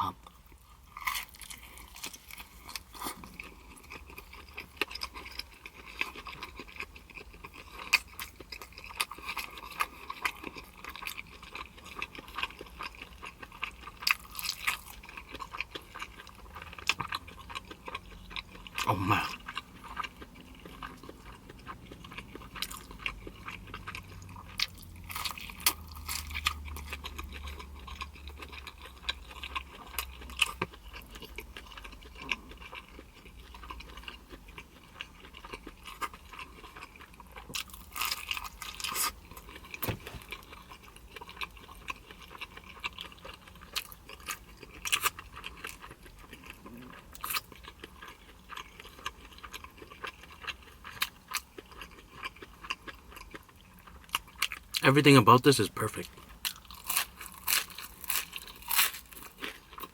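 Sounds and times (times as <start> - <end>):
person chewing food: 0.1 - 54.8, 55.9 - 59.9.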